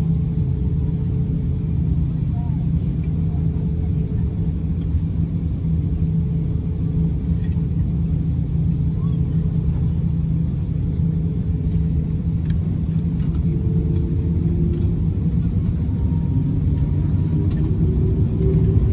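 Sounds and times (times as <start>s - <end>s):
faint steady hum: 0.0s - 18.9s
low rumble inside aircraft cabin: 0.0s - 18.9s.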